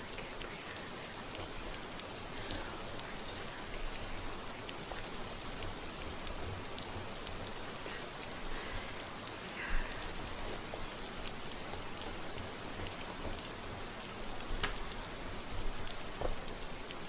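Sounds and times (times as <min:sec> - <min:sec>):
soft rustles: 0:00.0 - 0:17.0
steady rain: 0:00.0 - 0:17.0.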